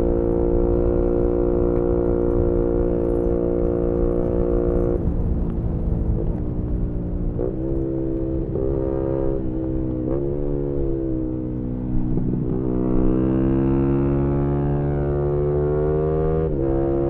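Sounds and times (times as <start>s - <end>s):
motorcycle engine revving: 0.0s - 5.3s, 7.3s - 17.0s
low wind rumble: 0.0s - 17.0s.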